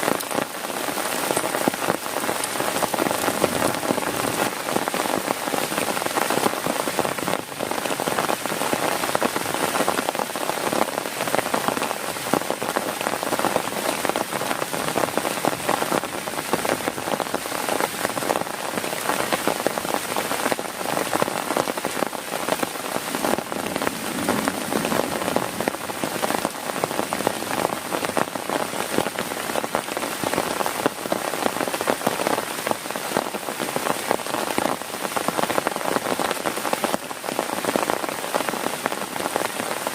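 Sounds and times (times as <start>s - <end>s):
heavy rain on tent: 0.0s - 39.9s.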